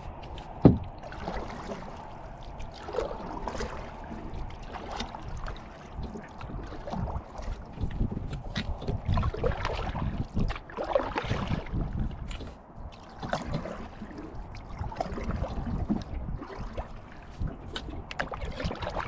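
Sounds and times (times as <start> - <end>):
paddle splashing in water: 0.0 - 19.0
wind rumbling on microphone: 0.0 - 19.0
water dripping and trickling: 0.1 - 19.0.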